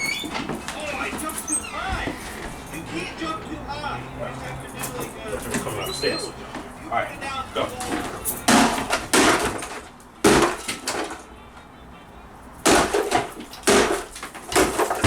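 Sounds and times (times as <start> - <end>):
loudspeaker cabinet smashing: 0.0 - 3.5, 4.4 - 11.5, 12.6 - 15.0.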